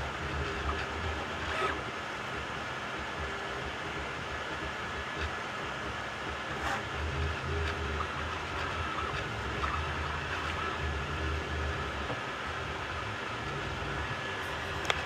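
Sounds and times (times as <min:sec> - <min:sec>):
faint whine: 0:00.0 - 0:15.0
printer fans and motors: 0:00.0 - 0:15.0.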